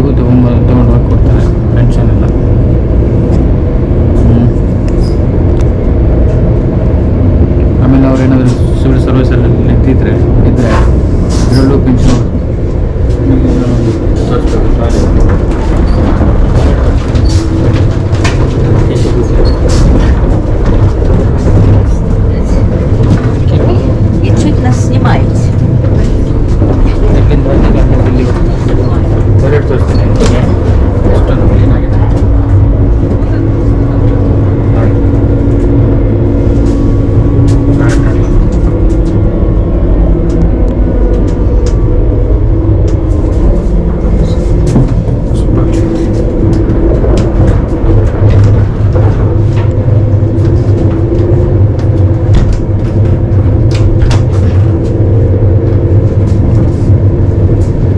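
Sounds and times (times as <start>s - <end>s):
train rumbling: 0.0s - 57.9s.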